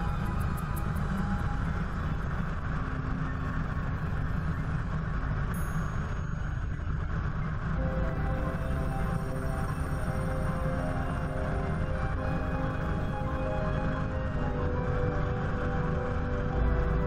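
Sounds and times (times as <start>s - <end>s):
helicopter rotor and engine din: 0.0s - 17.0s.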